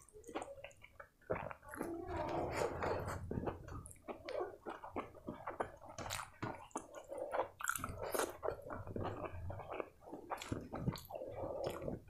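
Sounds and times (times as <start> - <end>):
wet chewing mouth clicks: 0.0 - 12.0.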